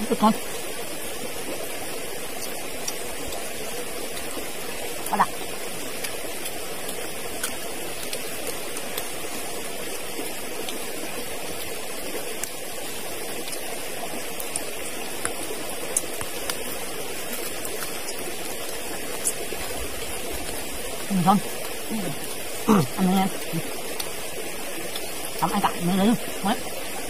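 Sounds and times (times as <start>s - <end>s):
stream rushing: 0.0s - 27.0s.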